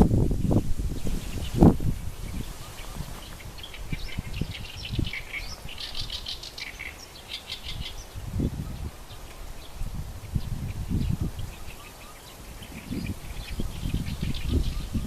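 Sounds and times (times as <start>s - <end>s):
low gusts of wind: 0.0s - 15.0s
small birds chirping: 0.0s - 15.0s.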